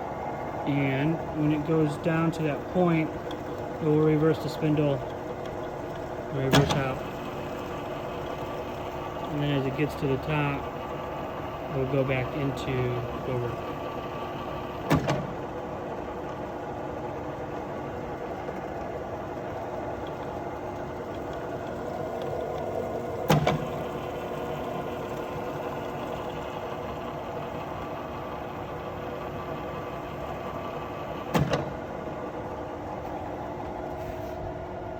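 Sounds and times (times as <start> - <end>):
drill press motor hum: 0.0 - 34.9.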